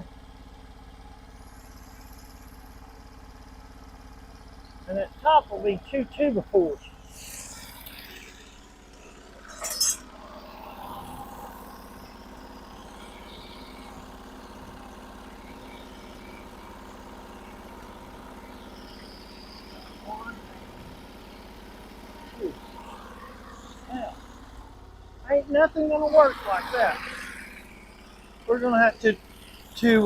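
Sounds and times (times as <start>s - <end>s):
sawmill engine idling: 0.0s - 30.0s.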